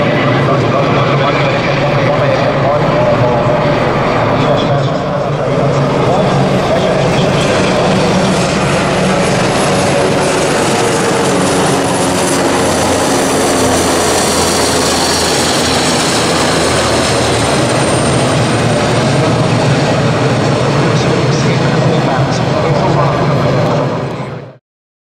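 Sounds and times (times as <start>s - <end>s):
helicopter flying past: 0.0s - 24.6s.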